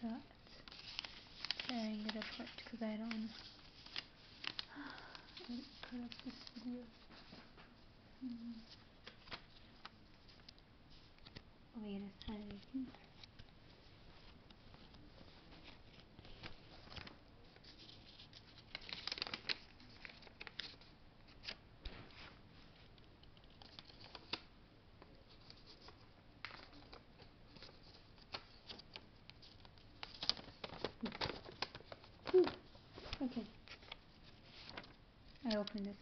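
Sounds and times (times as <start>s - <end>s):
paper rustling and crinkling: 0.0s - 24.5s, 25.2s - 36.0s.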